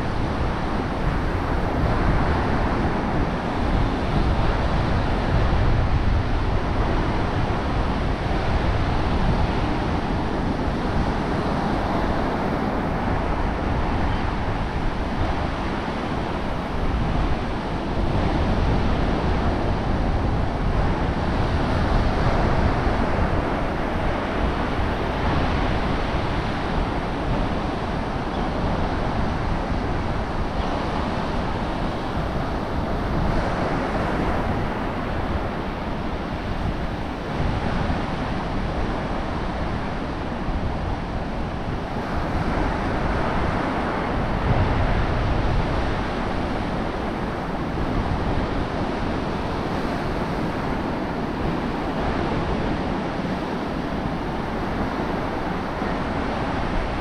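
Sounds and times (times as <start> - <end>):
ocean surf washing ashore: 0.0 - 57.0
wind buffeting microphone: 0.0 - 57.0.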